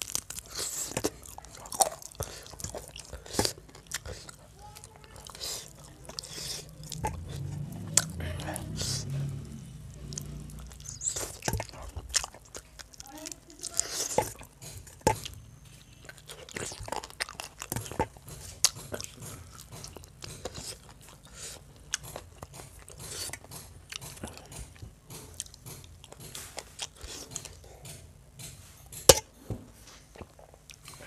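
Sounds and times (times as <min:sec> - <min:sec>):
chewing and wet mouth sounds: 0:00.0 - 0:29.3, 0:30.0 - 0:31.0.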